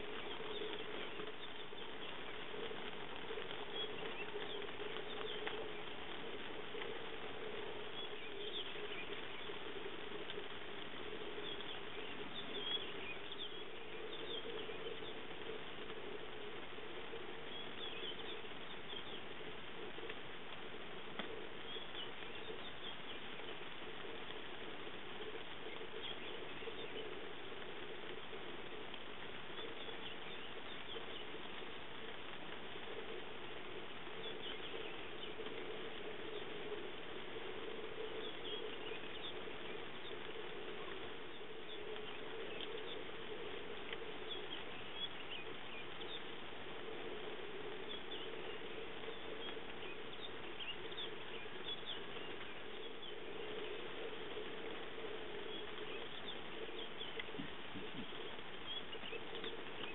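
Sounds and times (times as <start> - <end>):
light rain pattering: 0.0 - 59.9
low hum: 0.0 - 59.9.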